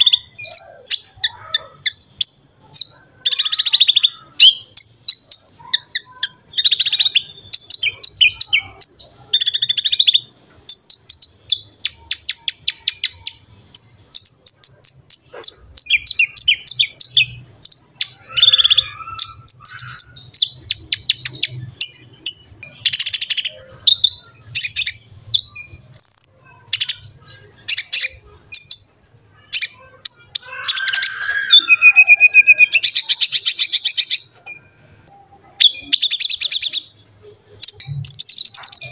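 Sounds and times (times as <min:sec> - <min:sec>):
small bird singing high chirps: 0:00.0 - 0:38.9.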